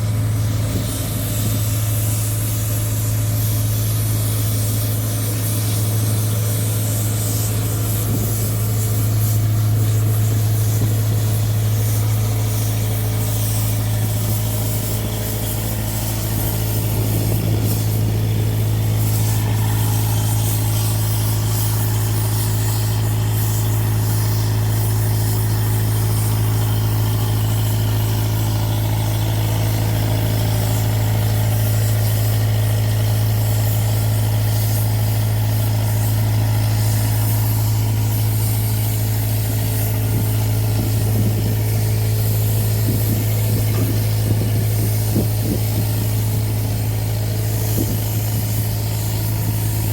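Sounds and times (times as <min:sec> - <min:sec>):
road roller diesel engine: 0:00.0 - 0:49.9.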